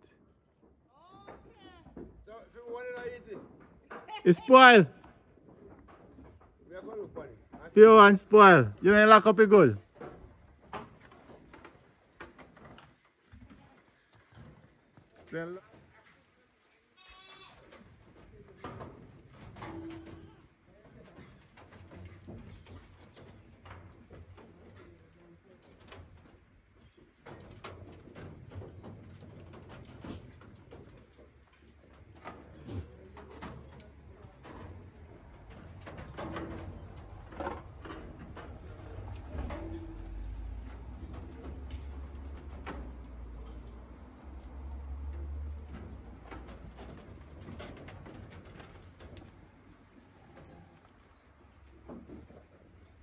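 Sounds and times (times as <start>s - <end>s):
rabbits moving in wooden hutch: 0.1s - 53.0s.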